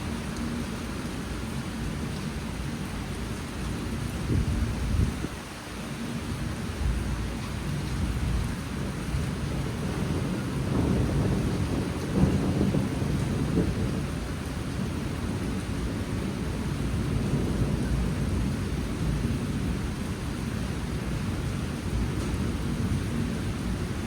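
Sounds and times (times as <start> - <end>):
heavy rain falling: 0.0 - 24.0
wind gusts: 3.8 - 24.0.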